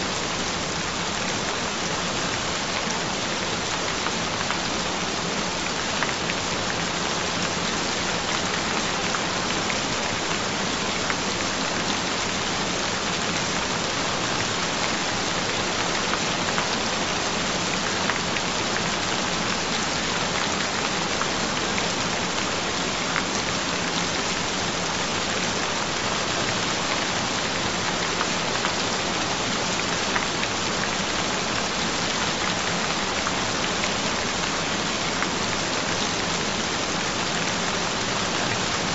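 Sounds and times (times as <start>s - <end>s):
rain falling steadily: 0.0s - 38.9s.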